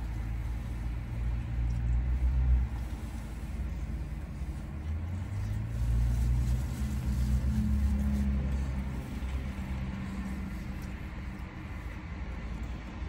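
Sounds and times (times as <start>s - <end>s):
low vehicle engine rumble: 0.0s - 13.0s.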